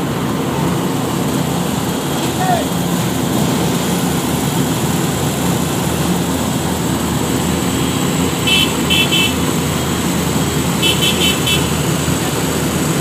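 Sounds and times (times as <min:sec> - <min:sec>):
heavy truck engines running: 0:00.0 - 0:13.0.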